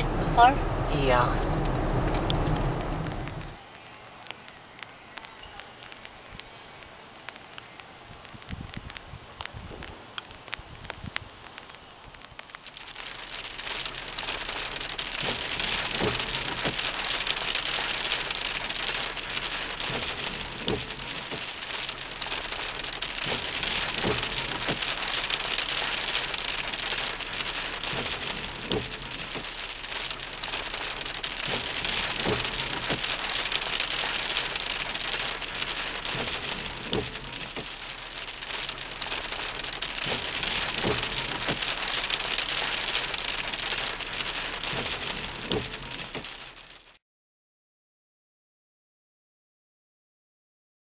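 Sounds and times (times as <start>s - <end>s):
heavy rain falling: 0.0s - 47.0s.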